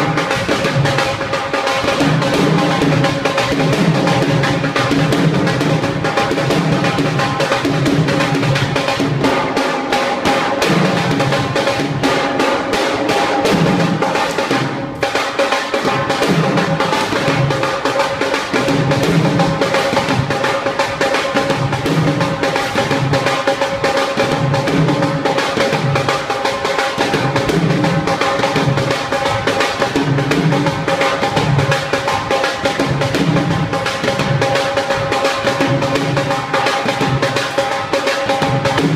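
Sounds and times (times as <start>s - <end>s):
dhol drum played with sticks: 0.0s - 38.9s.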